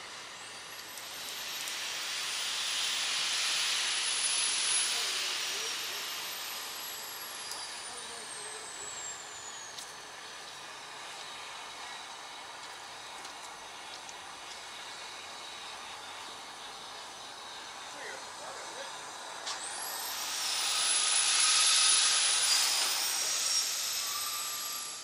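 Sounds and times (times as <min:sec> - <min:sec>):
broad hiss: 0:00.0 - 0:25.0
high whine sliding downward: 0:00.0 - 0:25.0
train coaches moving slowly: 0:00.0 - 0:25.0.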